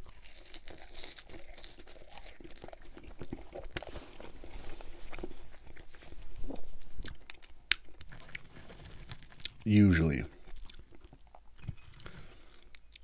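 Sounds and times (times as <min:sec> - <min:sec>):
wet crunchy chewing: 0:00.0 - 0:13.0.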